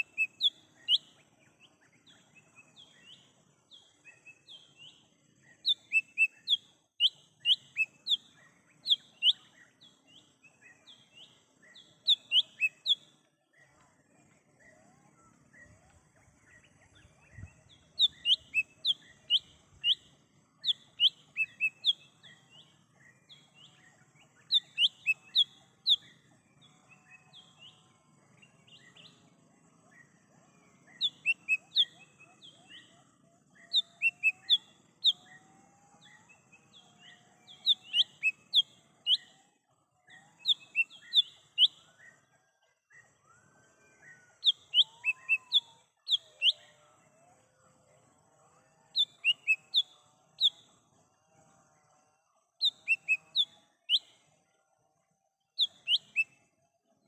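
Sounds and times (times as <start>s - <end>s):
faint bird whistles: 0.0s - 26.2s, 28.6s - 47.4s, 49.0s - 50.7s, 52.6s - 54.2s, 55.6s - 56.6s.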